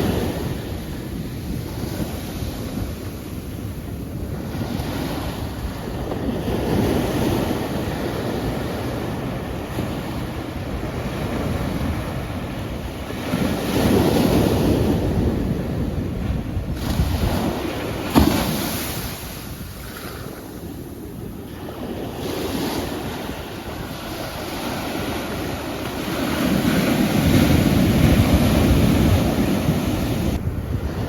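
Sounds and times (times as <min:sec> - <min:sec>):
ocean waves washing on shore: 0:00.0 - 0:31.0.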